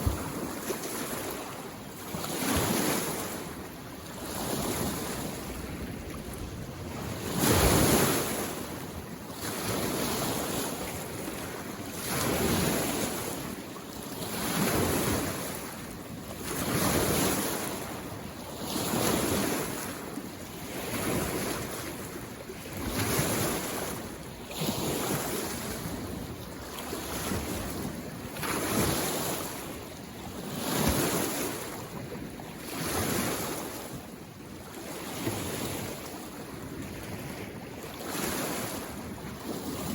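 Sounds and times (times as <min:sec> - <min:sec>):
small waves washing in: 0:00.0 - 0:39.9.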